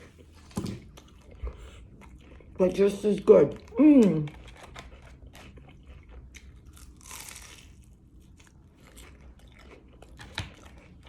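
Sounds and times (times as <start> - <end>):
chewing crispy spring roll: 0.0 - 11.0.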